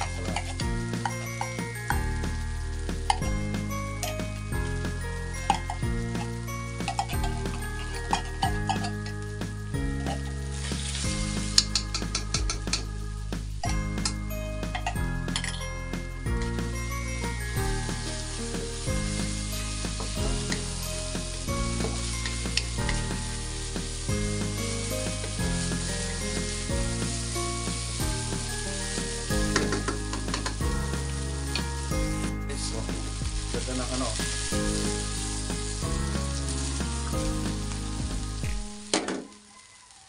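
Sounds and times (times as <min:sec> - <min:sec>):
background music with low notes: 0:00.0 - 0:39.5
meat sizzling in a wok: 0:00.0 - 0:40.0.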